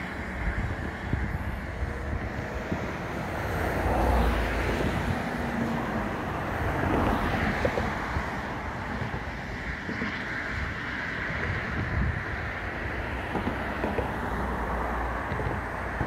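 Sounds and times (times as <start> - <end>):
wind buffeting microphone: 0.0 - 16.0
wind rushing across water: 0.0 - 16.0.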